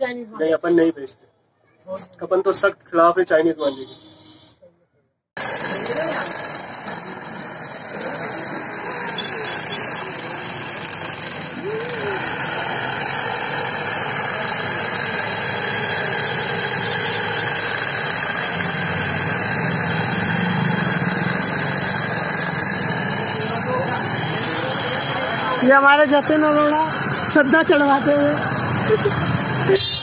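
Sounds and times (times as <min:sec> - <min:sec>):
small electric motor running: 0:05.4 - 0:30.0.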